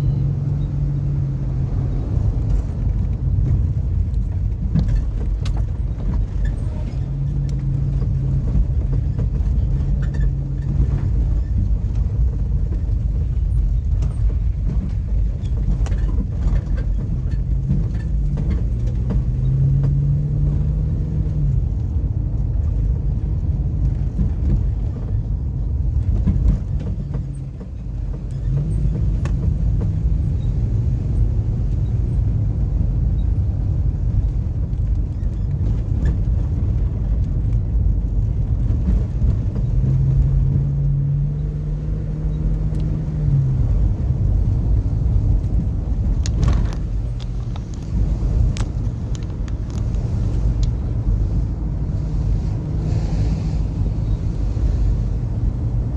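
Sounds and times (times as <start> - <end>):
car engine hum: 0.0 - 55.9
car road rumble: 0.0 - 55.9.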